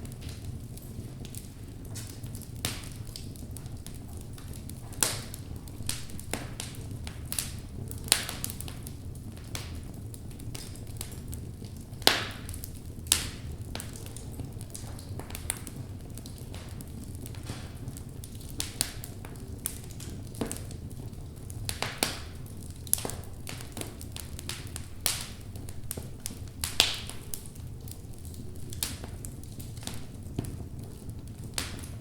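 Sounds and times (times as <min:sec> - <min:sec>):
fire crackling and popping: 0:00.0 - 0:32.0
low rumble of fire: 0:00.0 - 0:32.0.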